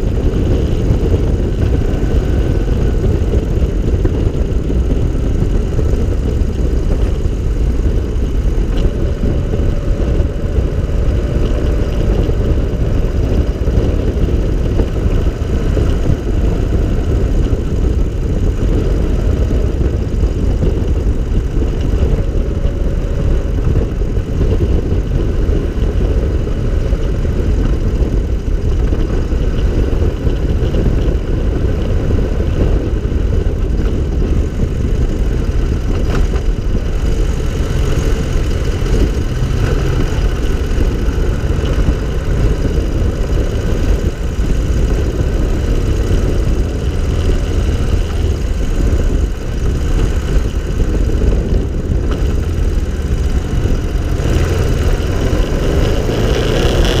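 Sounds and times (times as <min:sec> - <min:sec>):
small car engine running: 0:00.0 - 0:57.0.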